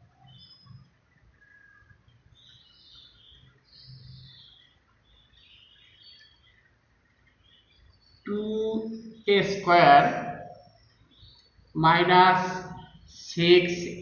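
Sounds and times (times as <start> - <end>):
birds chirping: 0.0 - 14.0
low room noise: 0.0 - 14.0.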